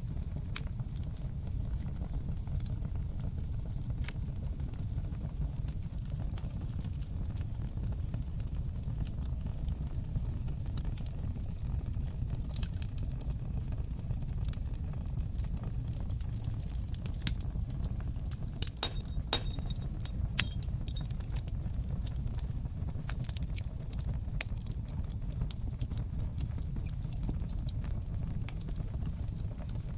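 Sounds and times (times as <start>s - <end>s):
fire pops and snaps: 0.0s - 29.9s
fireplace fire crackling: 0.0s - 29.9s
low rumble of flames: 0.0s - 29.9s.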